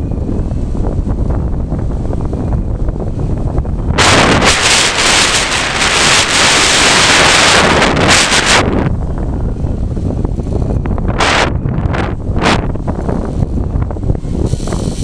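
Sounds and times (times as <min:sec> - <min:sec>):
wind buffeting microphone: 0:00.0 - 0:15.0
wind gust rushing hiss: 0:00.0 - 0:15.0.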